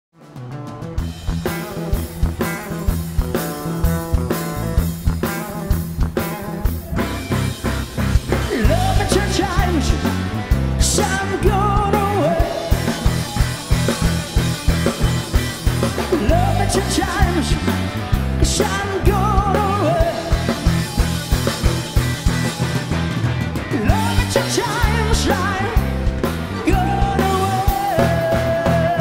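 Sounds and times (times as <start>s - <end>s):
bending lead guitar melody: 0.2s - 29.0s
rock band playing: 0.2s - 29.0s.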